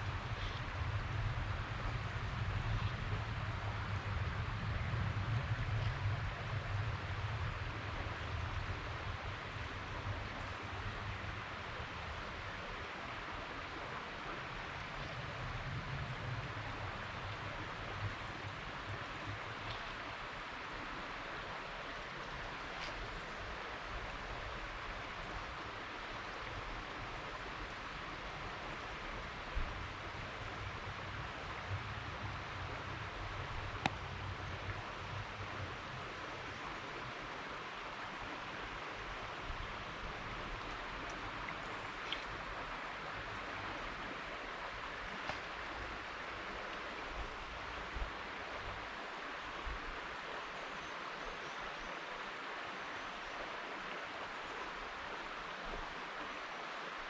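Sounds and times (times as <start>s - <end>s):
river water rushing: 6.3s - 57.0s.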